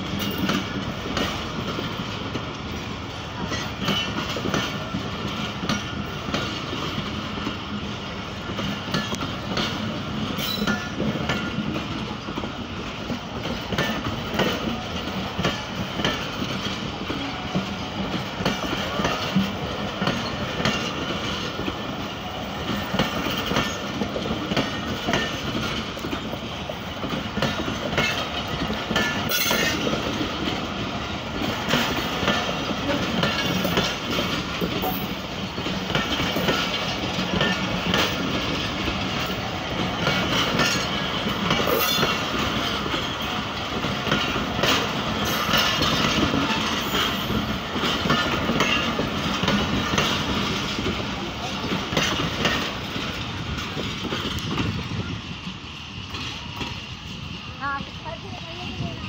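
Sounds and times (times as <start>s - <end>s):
train coaches rumbling past: 0.0s - 59.0s
wheels clacking over rail joints: 0.0s - 59.0s.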